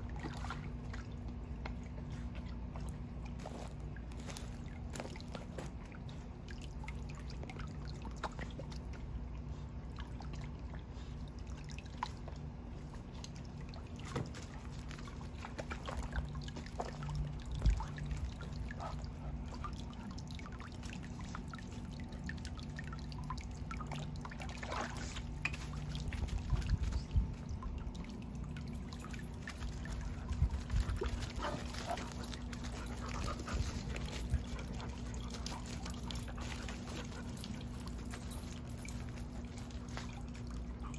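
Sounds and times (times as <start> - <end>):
dog splashing in water: 0.0 - 40.9
steady low hum: 0.0 - 40.9.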